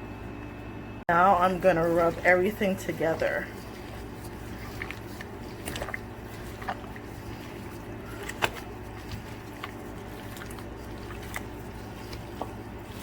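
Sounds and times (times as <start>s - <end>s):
steady low hum: 0.0s - 13.0s
hands squishing raw chicken: 1.7s - 13.0s.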